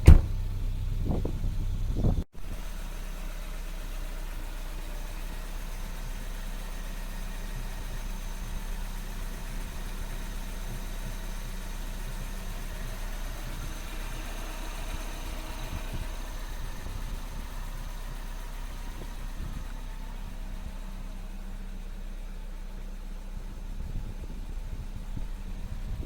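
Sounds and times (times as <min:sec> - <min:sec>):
petrol engine idling: 0:00.0 - 0:26.0.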